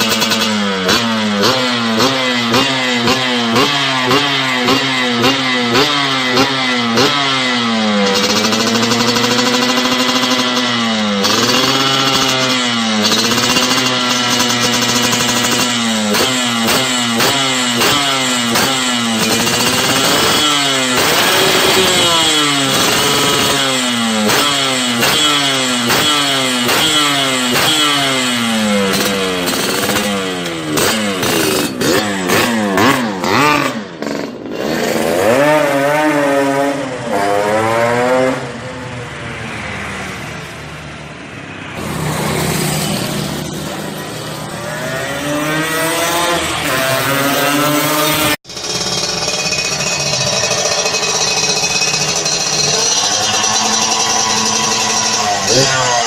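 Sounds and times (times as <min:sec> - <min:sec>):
two-stroke motorcycle revving: 0:00.0 - 0:56.0.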